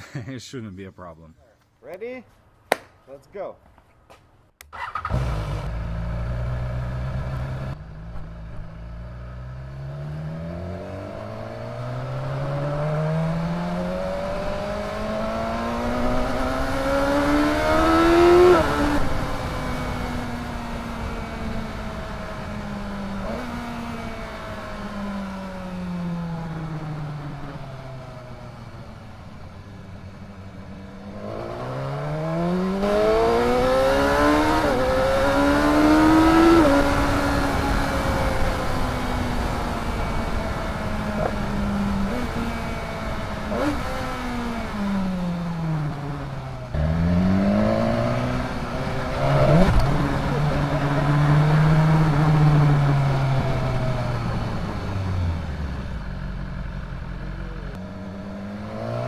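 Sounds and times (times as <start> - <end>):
motorcycle engine accelerating: 4.6 - 59.0.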